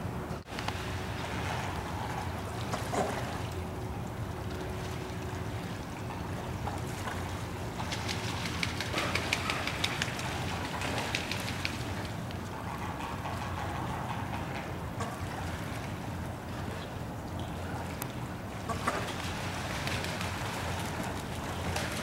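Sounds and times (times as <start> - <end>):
water rushing at grating: 0.0 - 22.0
birds' wings splashing water: 0.6 - 22.0.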